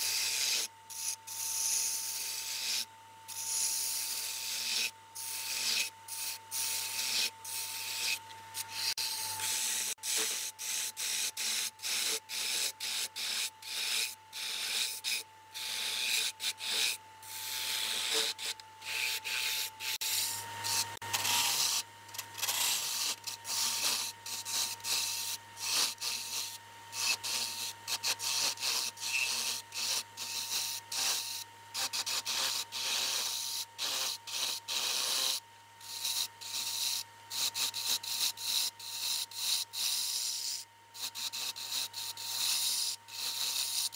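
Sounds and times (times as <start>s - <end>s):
lathe tool scraping wood: 0.0s - 43.9s
thin lathe whine: 0.0s - 43.9s.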